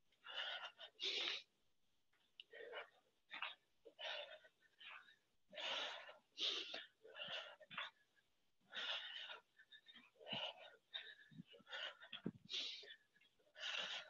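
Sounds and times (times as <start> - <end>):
woman breathing hard: 0.0 - 14.0.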